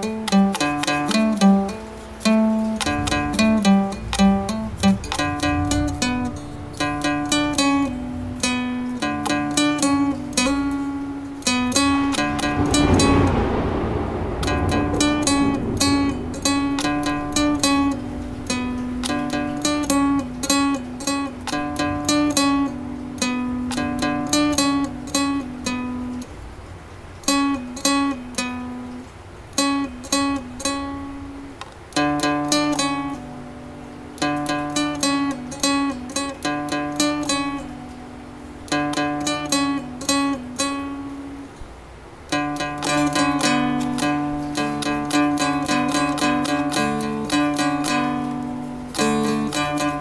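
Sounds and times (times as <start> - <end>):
plucked dulcimer melody: 0.0 - 26.3, 27.2 - 41.6, 42.3 - 50.0.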